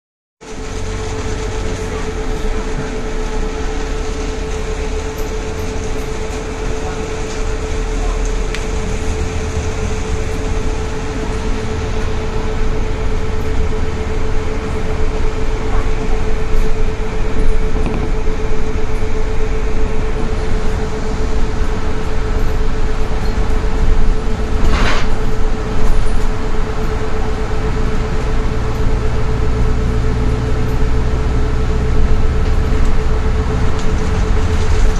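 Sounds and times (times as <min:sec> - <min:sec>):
tram low rumble: 0:00.4 - 0:34.9
tram motor hum: 0:00.4 - 0:34.9.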